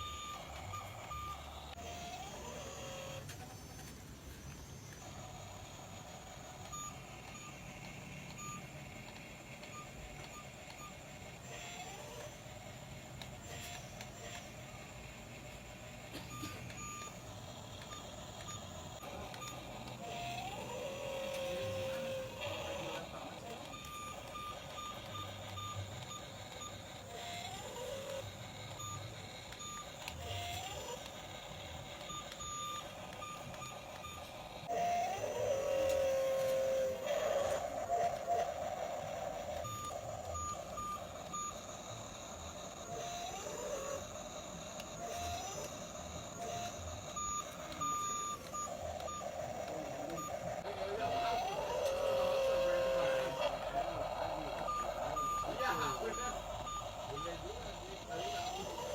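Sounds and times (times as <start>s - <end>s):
truck reversing alarm beeps: 0.0s - 3.9s, 4.8s - 58.9s.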